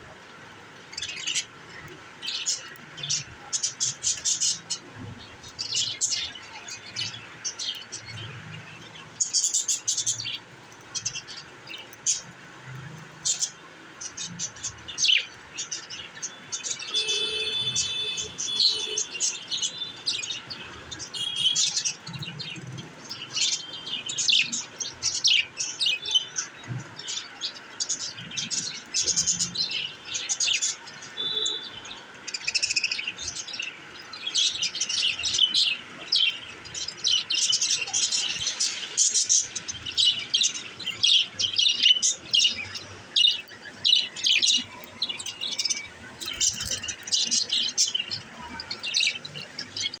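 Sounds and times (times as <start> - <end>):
budgerigars chirping and warbling: 0.9 - 12.4, 13.0 - 50.0.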